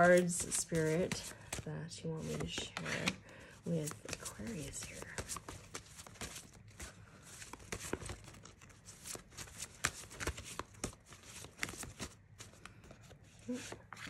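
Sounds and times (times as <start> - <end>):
cards shuffled by hand: 0.0 - 14.0.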